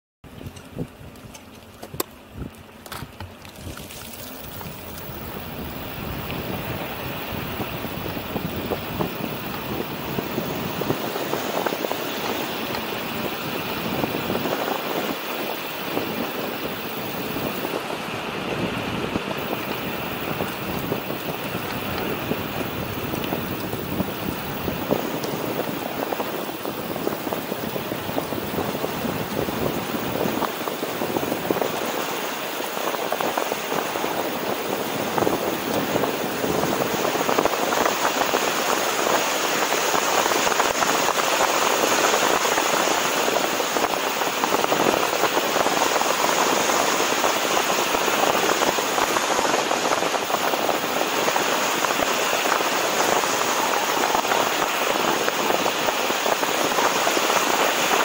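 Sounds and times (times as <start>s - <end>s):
tyre hiss on asphalt: 0.4s - 58.0s
wind rush over microphone: 0.4s - 58.0s.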